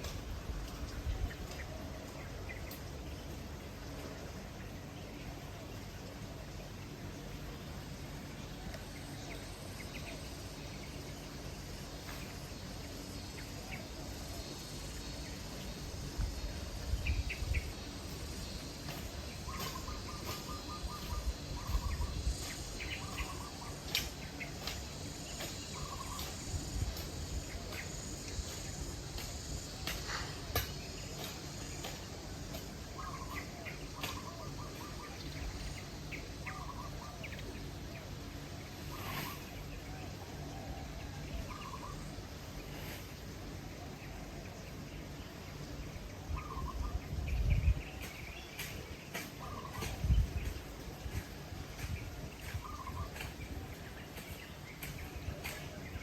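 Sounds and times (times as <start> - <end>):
birds chirping: 0.0 - 56.0
high insect drone: 0.0 - 56.0.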